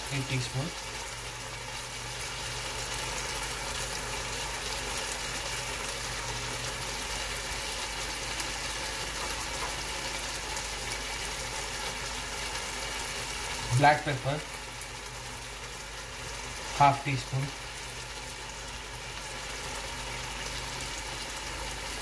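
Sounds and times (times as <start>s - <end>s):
sauce simmering and bubbling: 0.0s - 22.0s.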